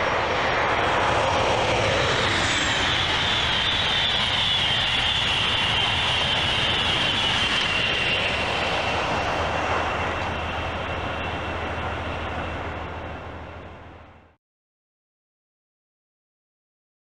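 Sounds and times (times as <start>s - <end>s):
high whine of train: 0.0s - 14.4s
high-speed train rushing by: 0.0s - 14.4s.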